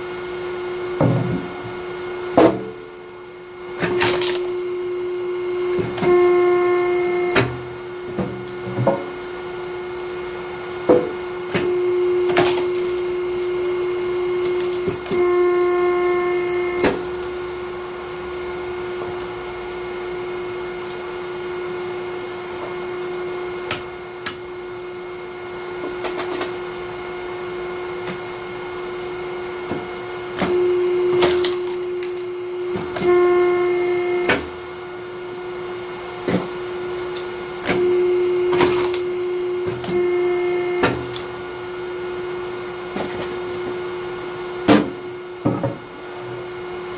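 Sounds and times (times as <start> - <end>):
hydraulic log splitter humming: 0.0 - 46.9.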